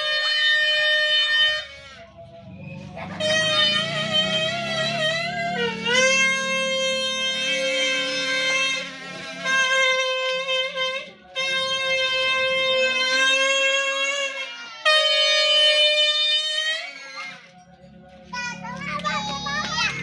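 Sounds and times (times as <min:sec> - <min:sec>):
reedy wind instrument melody: 0:00.0 - 0:20.0.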